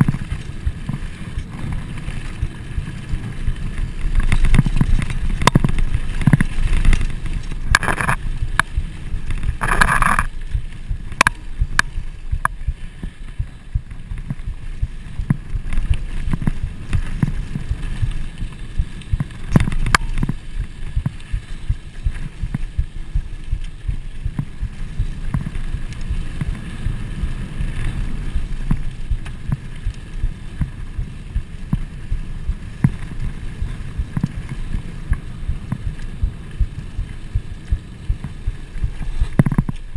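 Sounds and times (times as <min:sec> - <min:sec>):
bike rattling: 0:00.0 - 0:39.9
tyres rolling on dirt: 0:00.0 - 0:39.9
wind buffeting: 0:00.0 - 0:39.9.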